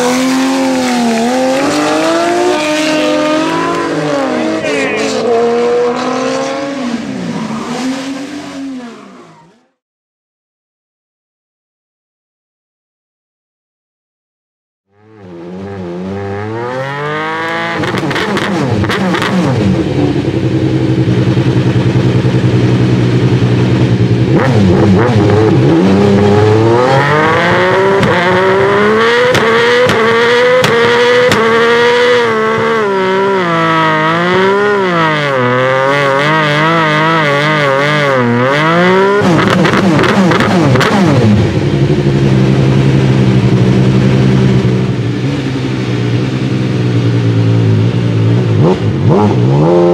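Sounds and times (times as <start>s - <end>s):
race car engine revving: 0.0s - 9.8s, 14.9s - 49.9s.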